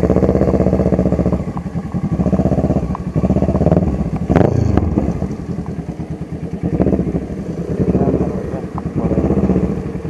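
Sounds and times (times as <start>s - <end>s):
motorcycle engine revving hard: 0.0s - 10.0s.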